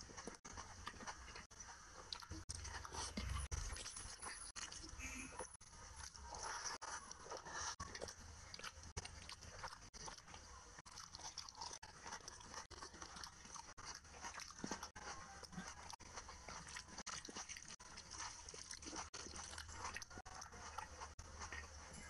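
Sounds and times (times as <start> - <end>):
chewing with wet mouth noises: 0.0 - 22.0
fingers mixing food on a plate: 0.0 - 22.0.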